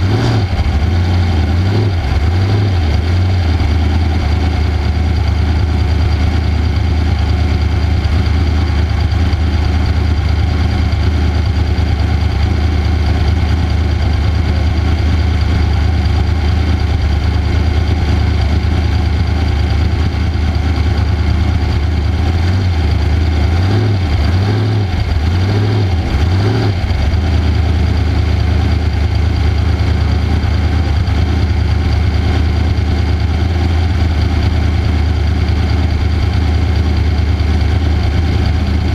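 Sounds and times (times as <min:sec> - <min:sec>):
race vehicle engine running: 0:00.0 - 0:38.9.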